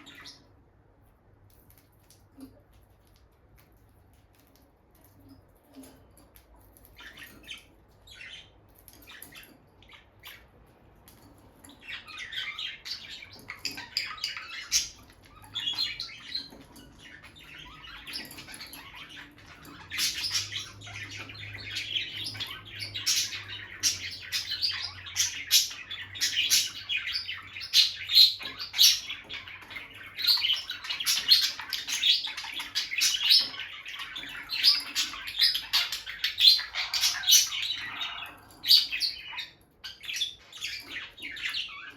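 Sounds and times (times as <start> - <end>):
lovebirds chirping and squawking: 0.0 - 41.9.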